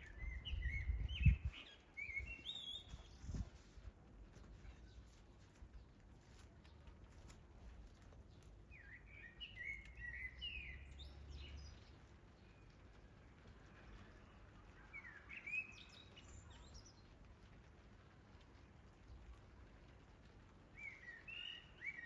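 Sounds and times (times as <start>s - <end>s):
songbird chirping: 0.0s - 17.2s, 20.7s - 22.0s
light rain hiss: 0.0s - 22.0s
raindrops ticking: 3.6s - 22.0s.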